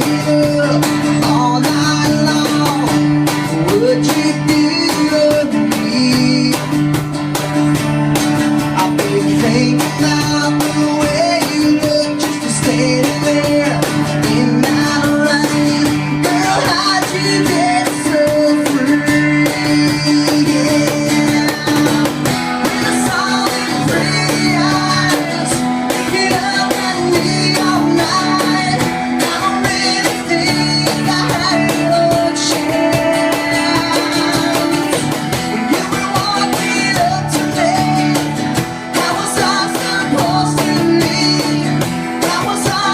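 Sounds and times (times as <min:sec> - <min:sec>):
person singing: 0:00.0 - 0:07.0, 0:08.7 - 0:42.9
cajon beat: 0:00.0 - 0:42.9
guitar strummed in chords: 0:00.0 - 0:42.9.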